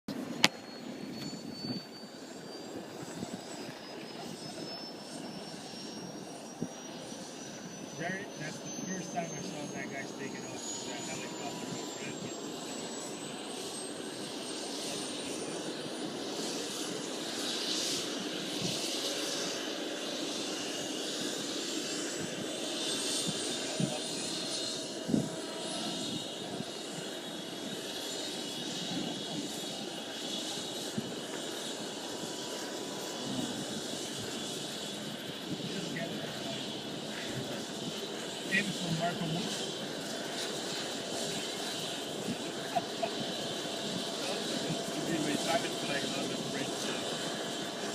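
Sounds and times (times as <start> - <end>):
helicopter engine and rotor: 0.1 - 47.9
thin high whine: 0.1 - 47.9.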